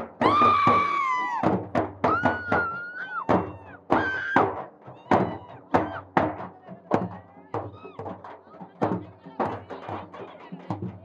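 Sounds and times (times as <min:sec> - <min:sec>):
uneven drum beats: 0:00.0 - 0:11.0.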